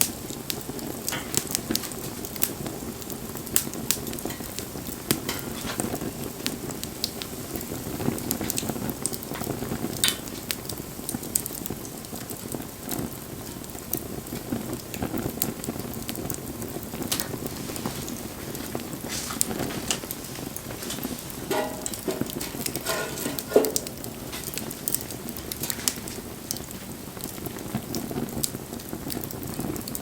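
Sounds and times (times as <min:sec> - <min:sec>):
bonfire crackling and popping: 0:00.0 - 0:30.0
low rush of flame: 0:00.0 - 0:30.0.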